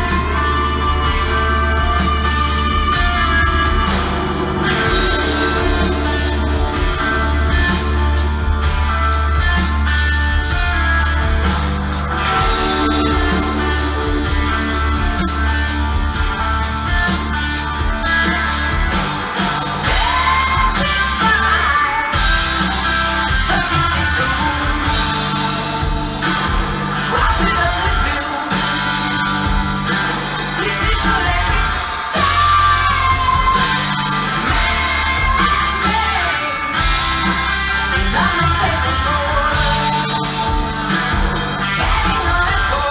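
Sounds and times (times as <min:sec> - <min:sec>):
man singing: 0:00.0 - 0:08.7, 0:12.1 - 0:17.1, 0:18.0 - 0:42.9
heavy bass line: 0:00.0 - 0:42.9
rock guitar: 0:00.0 - 0:42.9.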